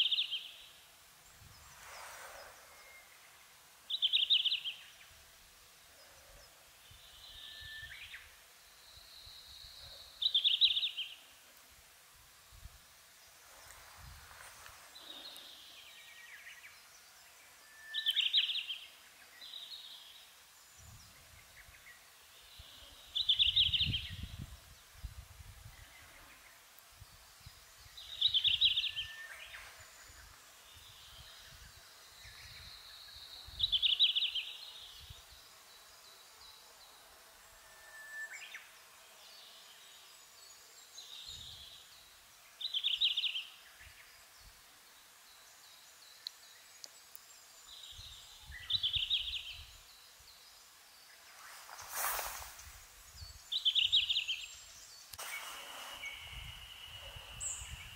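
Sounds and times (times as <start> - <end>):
bird song phrases: 0.0 - 5.3, 5.9 - 11.4, 13.2 - 57.9.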